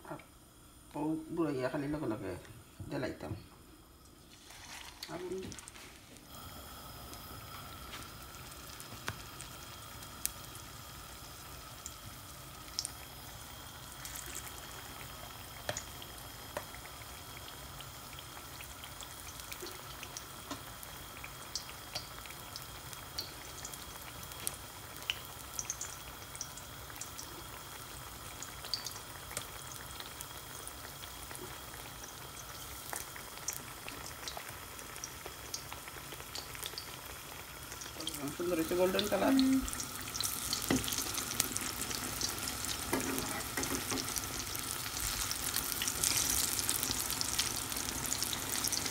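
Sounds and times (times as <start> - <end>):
vegetables frying in hot oil: 3.8 - 48.9.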